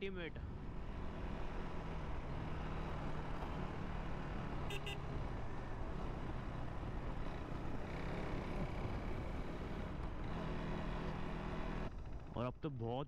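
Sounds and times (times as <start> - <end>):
wind and road noise: 0.0 - 12.9
motorcycle engine cruising: 0.4 - 12.5.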